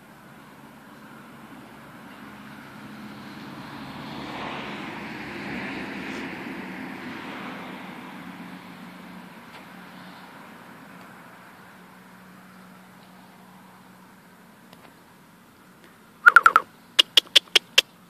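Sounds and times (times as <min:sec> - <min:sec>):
vehicle passing by: 0:00.0 - 0:14.7.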